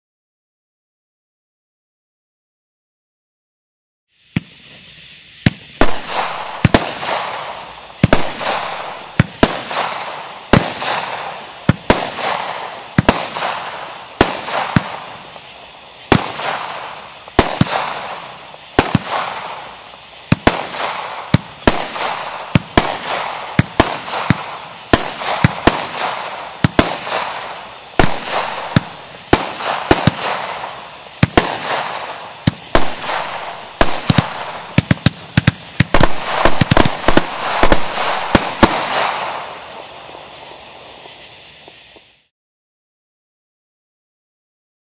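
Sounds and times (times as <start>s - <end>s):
fizzing crackling fireworks tail: 4.1s - 42.3s
fireworks bangs: 4.2s - 42.3s.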